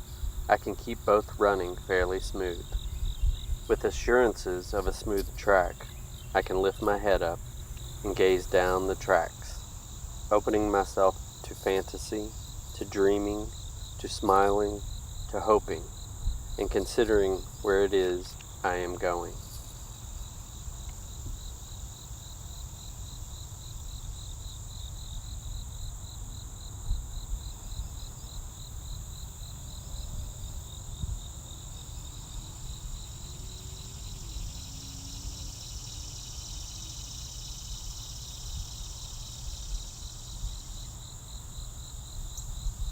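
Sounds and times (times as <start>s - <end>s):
crickets chirping: 0.0s - 42.9s
high insect trill: 0.0s - 42.9s.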